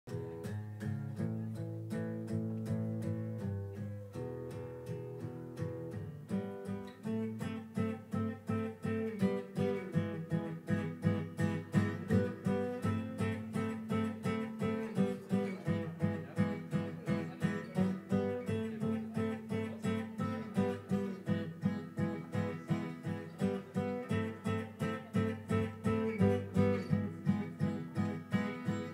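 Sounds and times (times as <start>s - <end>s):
acoustic guitar strumming: 0.1s - 28.9s.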